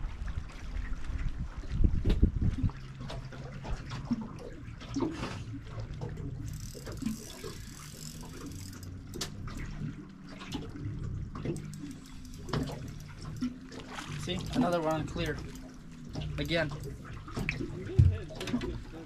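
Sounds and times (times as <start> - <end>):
low steady hum: 0.0 - 19.0
waves lapping against boat hull: 0.0 - 19.0.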